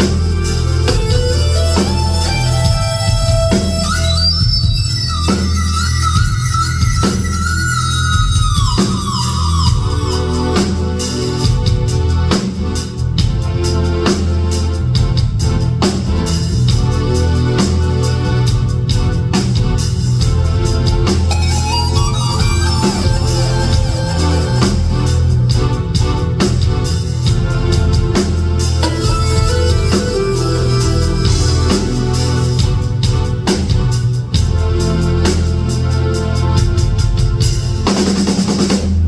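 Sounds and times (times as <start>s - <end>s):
electric organ-like held tones: 0.0s - 12.2s, 16.8s - 38.7s
drums hitting: 0.0s - 39.0s
heavy sustained bass: 0.0s - 39.0s.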